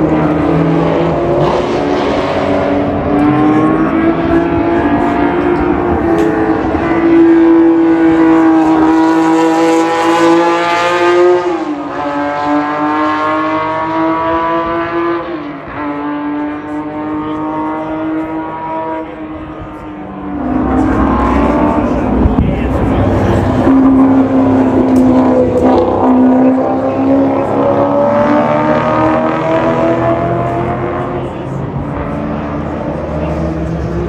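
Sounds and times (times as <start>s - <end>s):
race car engine at full throttle: 0.0s - 34.0s
second car engine: 0.0s - 34.0s.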